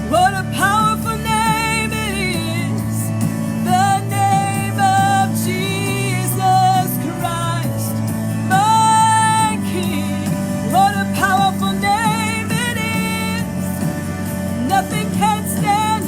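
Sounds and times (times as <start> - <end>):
band accompaniment: 0.0 - 16.0
person singing: 0.0 - 16.0.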